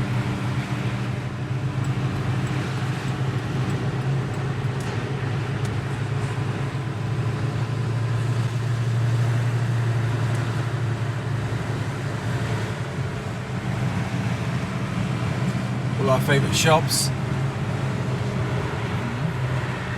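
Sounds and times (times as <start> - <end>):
car engine droning: 0.0 - 19.9
road noise: 0.0 - 19.9.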